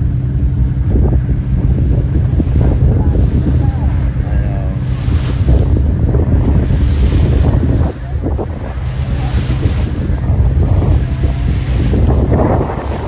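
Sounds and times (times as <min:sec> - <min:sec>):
boat engine humming: 0:00.0 - 0:13.0
sea water washing: 0:00.0 - 0:13.0
wind buffeting microphone: 0:00.0 - 0:13.0.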